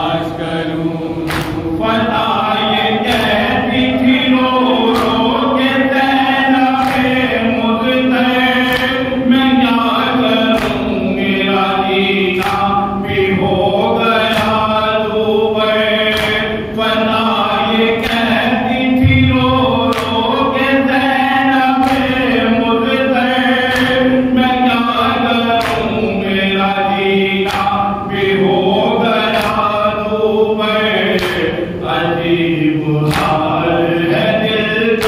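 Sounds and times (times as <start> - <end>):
man chanting through a microphone: 0.0 - 35.0
rhythmic chest-beating slaps: 0.0 - 35.0.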